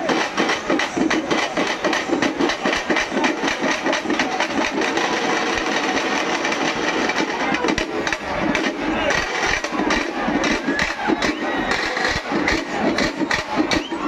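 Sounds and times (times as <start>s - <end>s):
drummers beating barrel drums: 0.0s - 14.0s.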